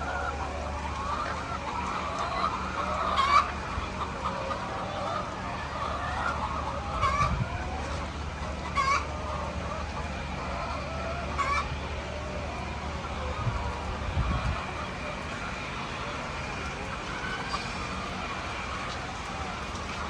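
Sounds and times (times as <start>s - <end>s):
hens clucking: 0.0s - 20.0s
steady low hum: 0.0s - 20.0s.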